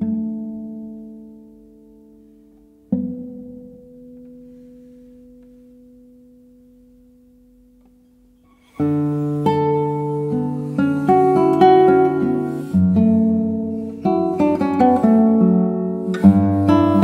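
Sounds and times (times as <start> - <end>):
classical guitar playing: 0.0 - 17.0.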